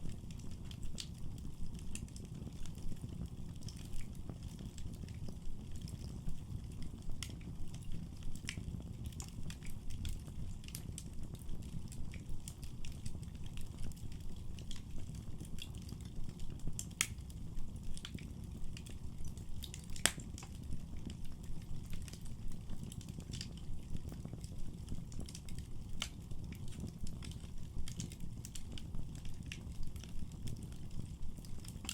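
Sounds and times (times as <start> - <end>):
fire crackling and popping: 0.0 - 31.9.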